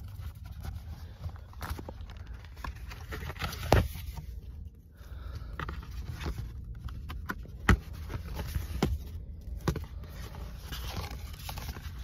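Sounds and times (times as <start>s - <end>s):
cardboard packaging rustling: 0.0s - 4.8s, 5.4s - 12.0s.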